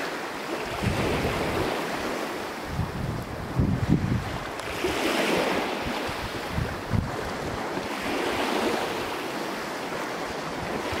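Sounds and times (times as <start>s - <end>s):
sea waves breaking: 0.0s - 11.0s
wind buffeting microphone: 0.6s - 11.0s.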